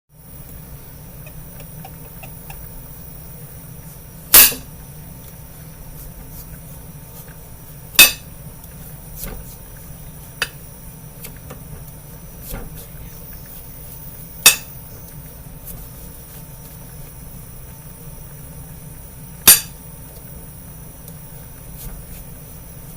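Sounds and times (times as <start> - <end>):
low hum: 0.2 - 22.9.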